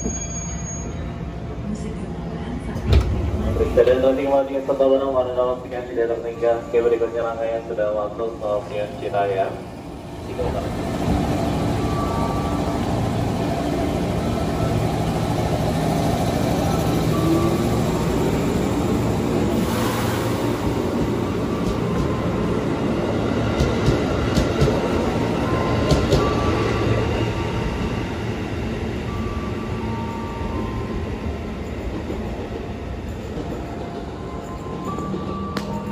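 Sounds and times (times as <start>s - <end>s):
electric train humming and rumbling: 0.0s - 35.9s.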